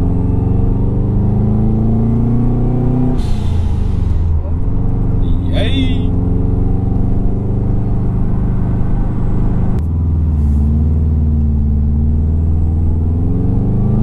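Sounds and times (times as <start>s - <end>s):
car engine heard from cabin: 0.0s - 14.0s.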